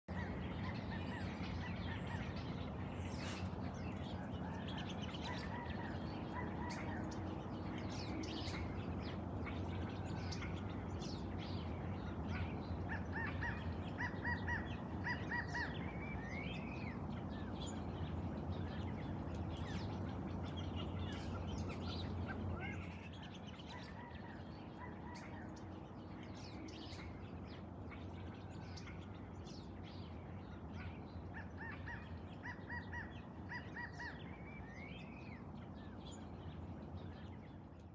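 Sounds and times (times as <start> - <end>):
wild birds chirping: 0.0 - 37.9
steady low hum: 0.1 - 37.9.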